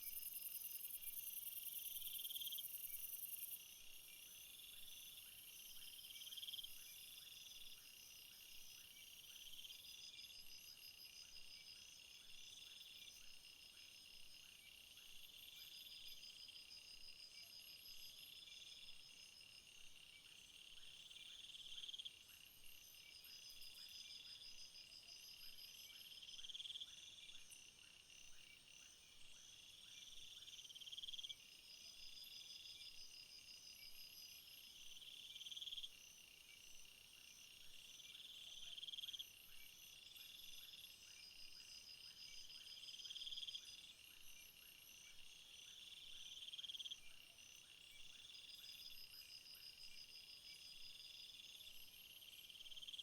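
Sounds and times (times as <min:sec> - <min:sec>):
high insect song: 0:00.0 - 0:53.0
insects pulsing trills: 0:00.0 - 0:53.0.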